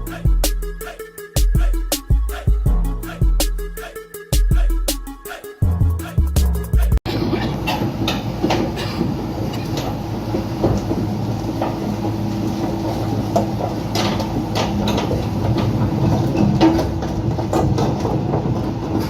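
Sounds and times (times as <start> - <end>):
heavy machine humming: 0.0 - 19.0.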